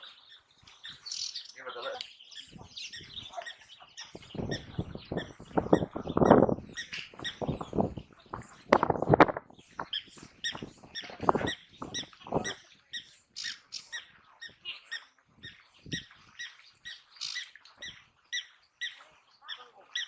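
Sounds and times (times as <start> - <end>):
wild dogs twittering squeaks: 0.7 - 20.0.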